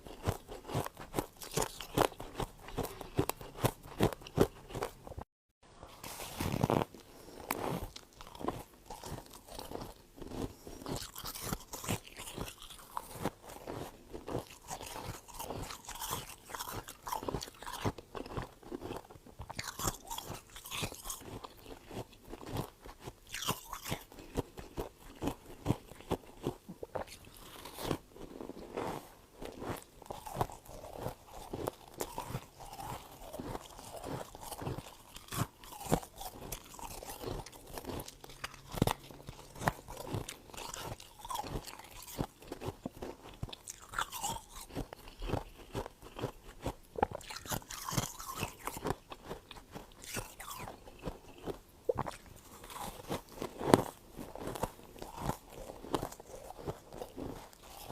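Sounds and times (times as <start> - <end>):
mouth crunching frost: 0.0 - 5.2, 5.8 - 57.9.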